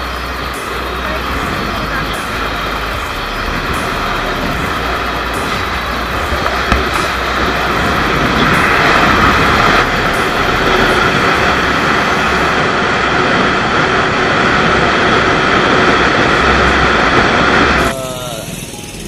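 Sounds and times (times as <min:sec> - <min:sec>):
wind rushing: 0:00.0 - 0:17.9
motorcycle engine: 0:00.0 - 0:19.0.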